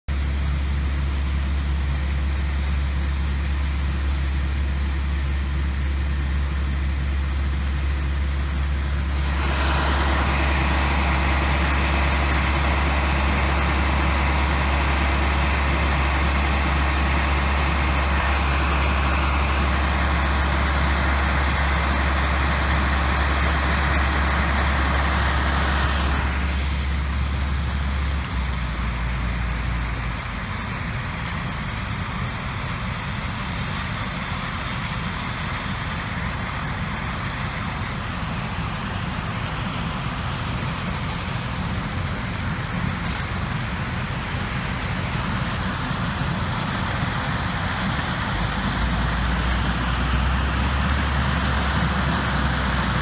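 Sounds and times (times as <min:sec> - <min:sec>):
combine harvester engine drone: 0:00.0 - 0:53.0.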